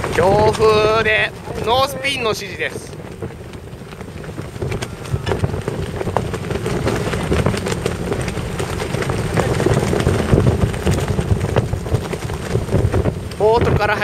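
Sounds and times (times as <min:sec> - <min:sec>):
motorboat engine hum: 0:00.0 - 0:13.6
wind buffeting the microphone: 0:00.0 - 0:14.0.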